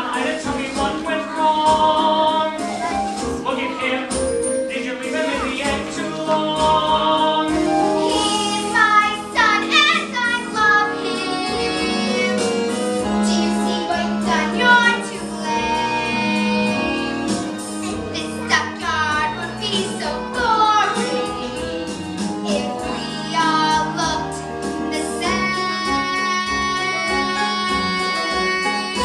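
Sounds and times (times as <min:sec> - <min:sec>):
musical accompaniment: 0:00.0 - 0:29.0
children singing together: 0:05.1 - 0:29.0.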